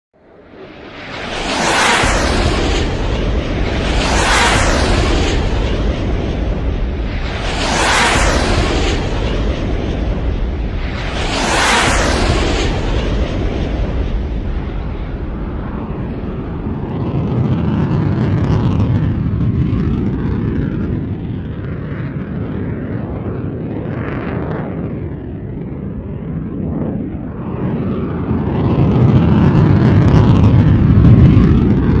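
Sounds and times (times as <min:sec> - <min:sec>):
rocket engine exhaust roar: 0:00.2 - 0:32.0.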